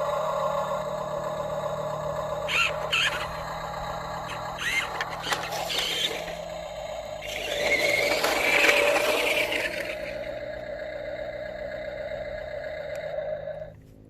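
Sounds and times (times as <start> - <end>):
small electric motors humming: 0.0 - 14.0.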